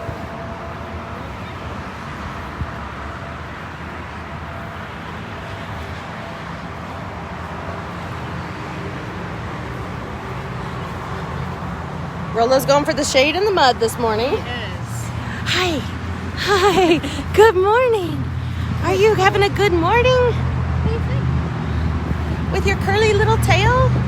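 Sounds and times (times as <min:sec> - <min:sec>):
low engine hum: 0:00.0 - 0:24.0
road traffic rumble: 0:00.0 - 0:24.0.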